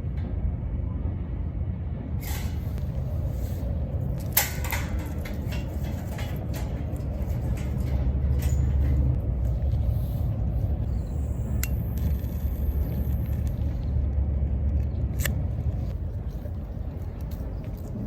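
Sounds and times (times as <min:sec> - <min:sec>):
low fire rumble: 0:00.0 - 0:18.0.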